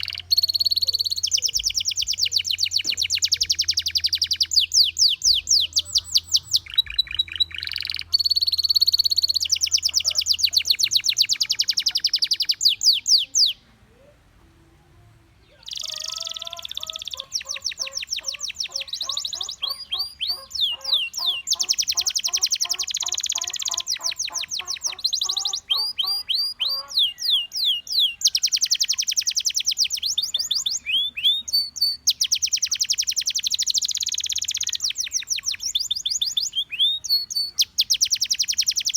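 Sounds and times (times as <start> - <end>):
canary trilling: 0.0 - 13.6, 15.5 - 38.9
lower repeated bird notes: 0.0 - 38.9.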